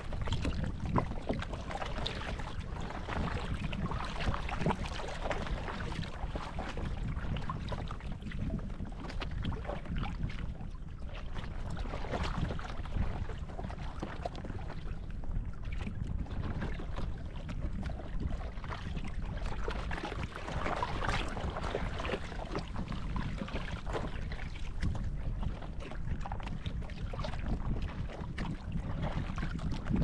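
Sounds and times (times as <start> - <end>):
waves lapping against a hull: 0.0 - 30.0
wind rumble on microphone: 0.0 - 30.0.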